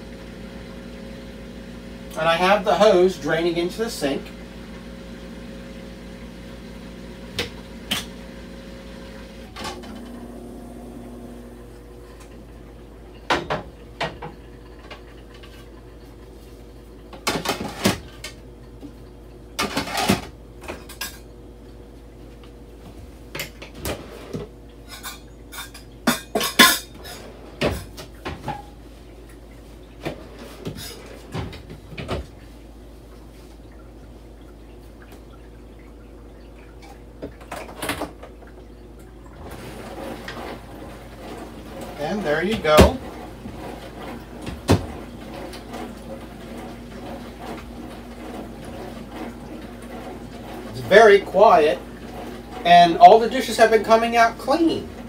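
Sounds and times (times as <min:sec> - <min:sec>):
dishwasher motor hum: 0:00.0 - 0:55.0.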